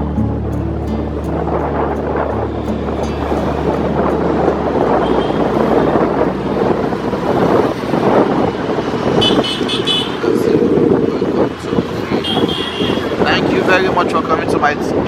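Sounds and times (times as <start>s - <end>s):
moving vehicle noise: 0.0s - 15.0s
wind buffeting microphone: 0.0s - 15.0s.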